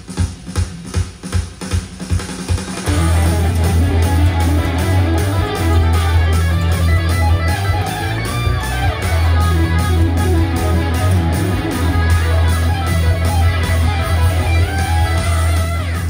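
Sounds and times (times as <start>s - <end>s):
backing bass and drums: 0.0s - 16.0s
electric guitar blues lick: 2.8s - 16.0s.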